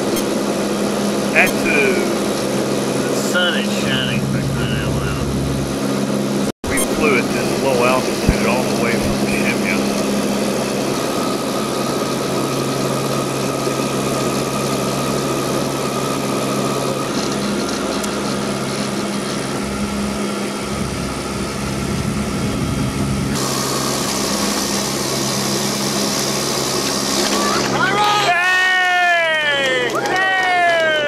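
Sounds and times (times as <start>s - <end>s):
airliner engines droning in cabin: 0.0s - 31.0s.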